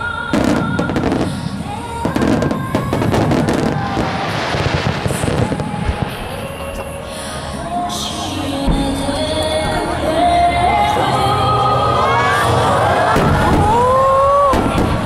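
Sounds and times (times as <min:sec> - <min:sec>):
fireworks bursting: 0:00.0 - 0:11.1, 0:12.5 - 0:15.0
music playing: 0:00.0 - 0:15.0.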